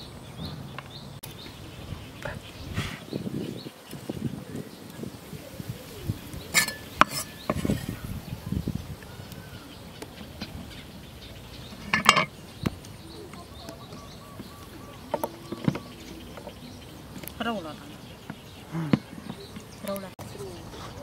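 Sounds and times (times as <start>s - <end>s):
bird chirps: 0.0s - 21.0s.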